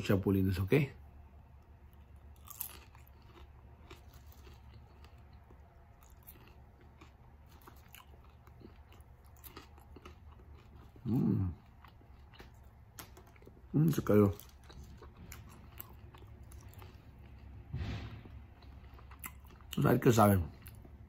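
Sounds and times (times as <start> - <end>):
person chewing crunchy food: 1.6 - 21.0.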